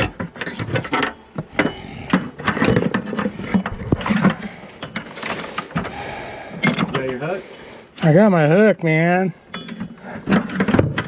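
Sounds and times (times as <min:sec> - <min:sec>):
hand tools on wooden boards: 0:00.0 - 0:08.0, 0:09.5 - 0:11.0.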